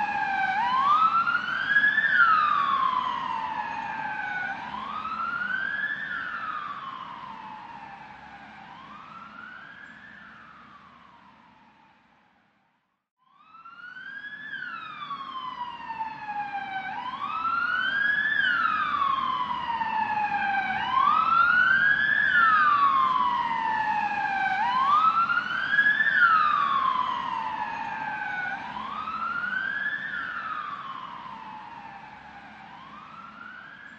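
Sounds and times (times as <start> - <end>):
ambulance siren wailing: 0.0 - 11.9, 13.2 - 33.9
low road rumble: 0.0 - 12.6, 13.4 - 33.9.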